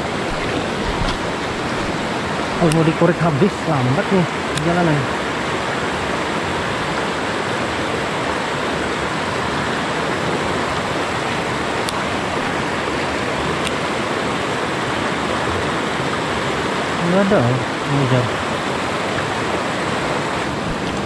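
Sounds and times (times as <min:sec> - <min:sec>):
stream rushing over boulders: 0:00.0 - 0:21.0.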